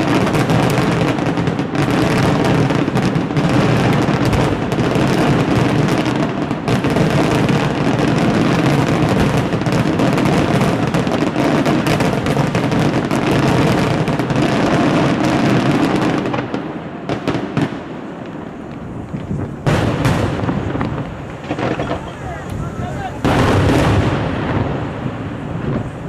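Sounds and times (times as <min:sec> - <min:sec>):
firework bangs and crackle: 0:00.0 - 0:26.0.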